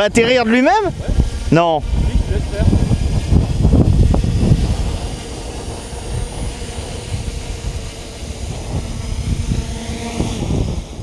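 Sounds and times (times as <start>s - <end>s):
drone propellers humming: 0.0s - 11.0s
lower drone tone: 0.0s - 11.0s
wind rumbling on microphone: 0.0s - 11.0s.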